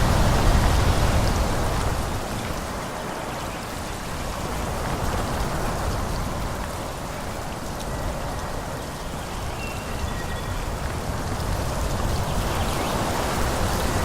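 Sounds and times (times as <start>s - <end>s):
wind through trees: 0.0s - 14.0s.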